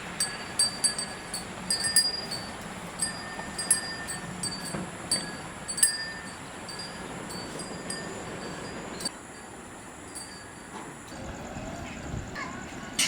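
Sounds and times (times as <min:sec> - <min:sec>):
light metallic clinks: 0:00.0 - 0:11.0.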